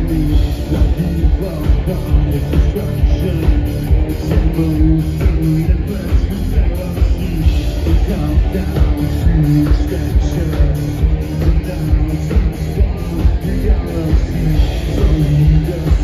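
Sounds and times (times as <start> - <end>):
distorted electric guitar: 0.0 - 16.0
drums keeping a steady beat: 0.0 - 16.0
person singing: 0.0 - 16.0.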